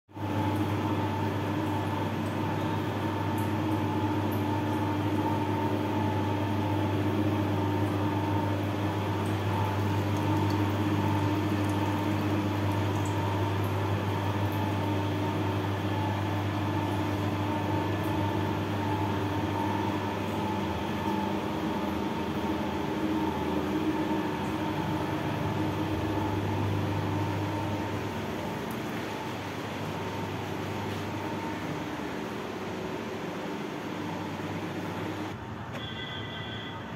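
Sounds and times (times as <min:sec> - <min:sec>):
oil mill machine humming: 0:00.1 - 0:36.9.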